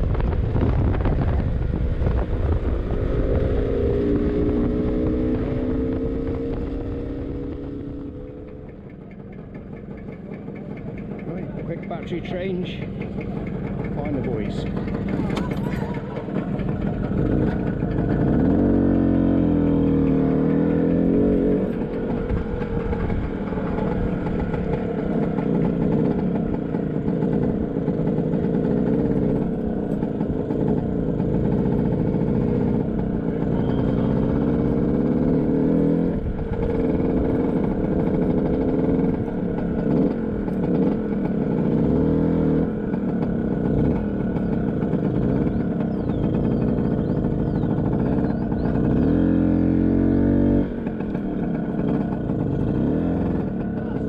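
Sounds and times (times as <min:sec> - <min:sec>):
two-stroke scooter engine revving: 0:00.0 - 0:54.0.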